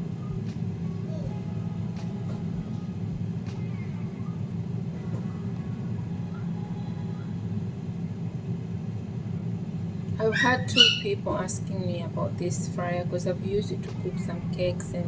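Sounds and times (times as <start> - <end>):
air fryer fan whirring: 0.0 - 15.0.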